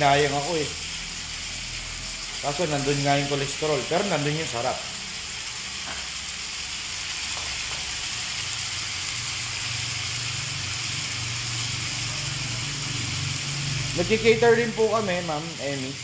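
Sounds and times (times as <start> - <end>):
chicken sizzling in a skillet: 0.0 - 16.0.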